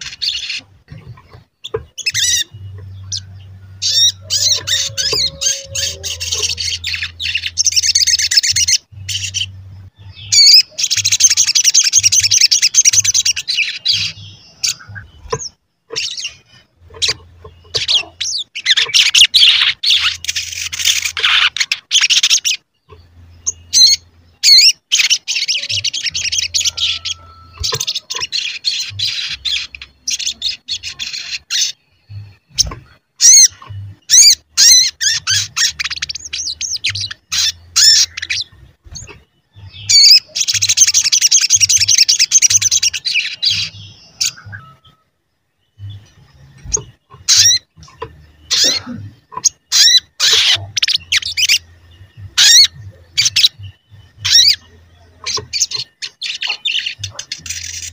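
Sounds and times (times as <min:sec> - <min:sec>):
sunbird twittering trills: 0:00.0 - 0:57.9.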